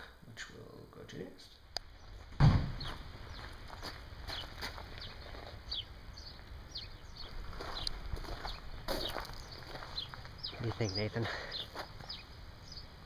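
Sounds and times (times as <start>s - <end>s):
birds chirping: 1.1s - 13.0s.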